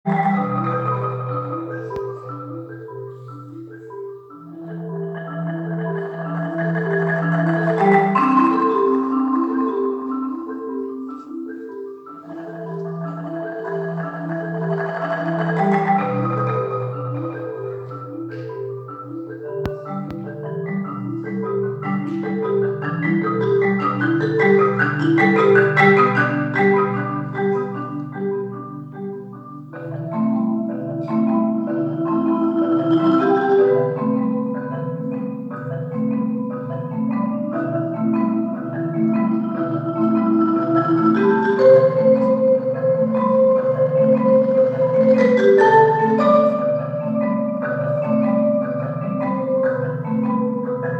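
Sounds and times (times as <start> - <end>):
marimba music: 0.0 - 50.9.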